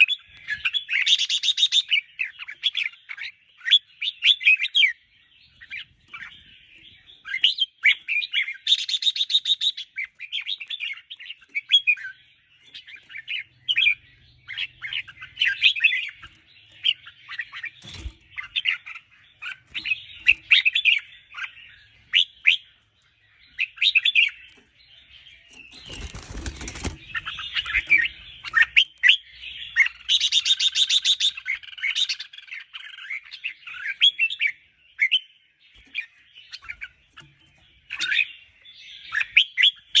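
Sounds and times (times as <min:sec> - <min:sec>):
birds singing chirping phrases: 0:00.0 - 0:40.0.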